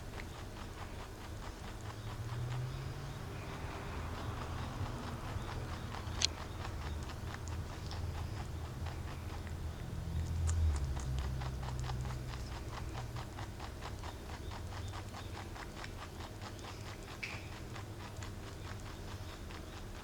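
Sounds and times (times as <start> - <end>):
rabbit chewing crunchily: 0.0 - 20.0.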